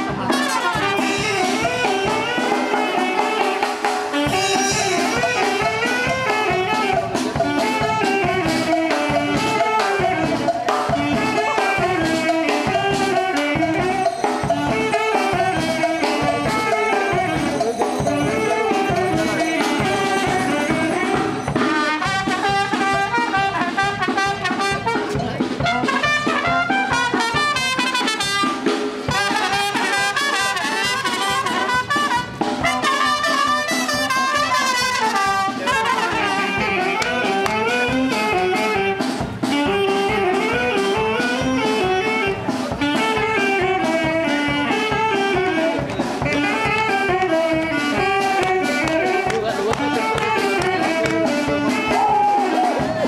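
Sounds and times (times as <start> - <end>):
brass band playing: 0.0 - 53.0
steady drum beat: 0.0 - 53.0.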